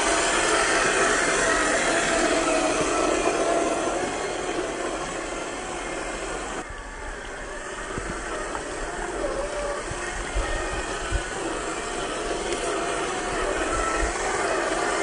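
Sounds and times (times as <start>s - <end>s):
creek water rushing: 0.0s - 15.0s
electric motor whining: 0.0s - 15.0s.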